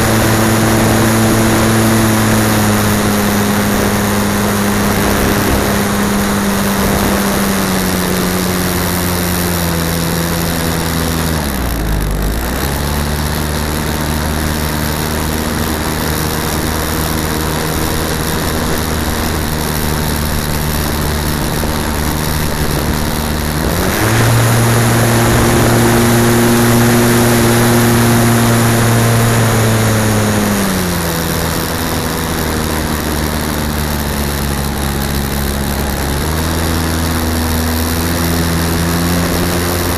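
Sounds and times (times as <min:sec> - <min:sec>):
airflow rushing over camera: 0:00.0 - 0:39.9
low humming tone: 0:00.0 - 0:39.9.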